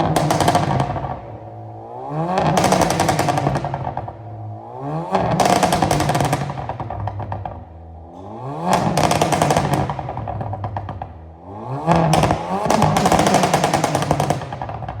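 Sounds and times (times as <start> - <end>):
car engine revving with exhaust pops: 0.0 - 15.0.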